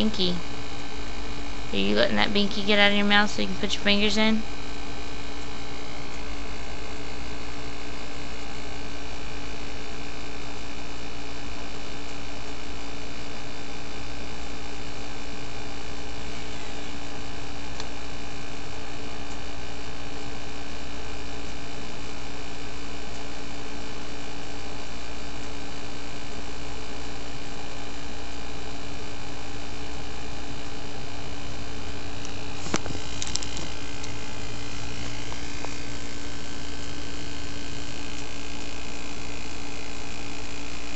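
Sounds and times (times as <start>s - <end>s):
steady hum with hiss: 0.0s - 40.9s.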